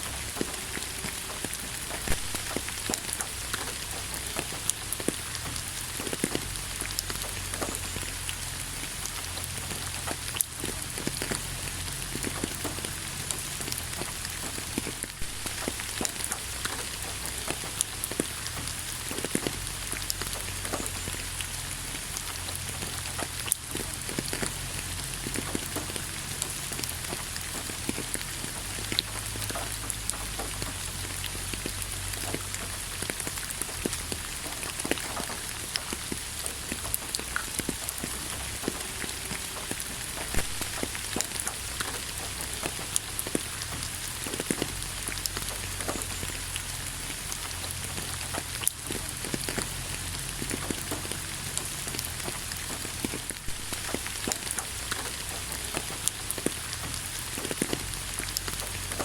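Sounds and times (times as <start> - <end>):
raindrops clicking close by: 0.0 - 59.0
steady rain: 0.0 - 59.0.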